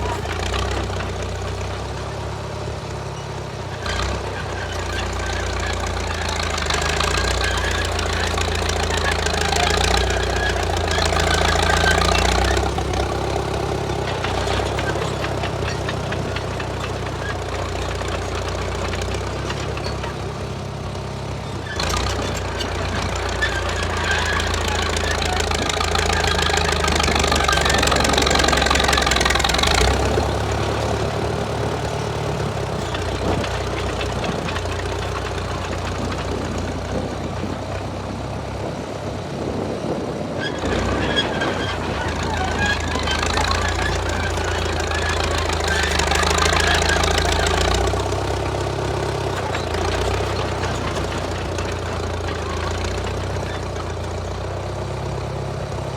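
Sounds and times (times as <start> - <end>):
bulldozer engine under load: 0.0 - 55.9.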